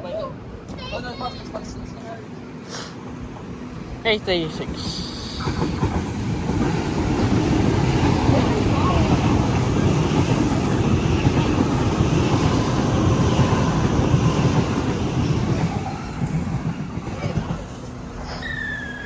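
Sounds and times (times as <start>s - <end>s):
electric train running past: 0.3s - 19.0s.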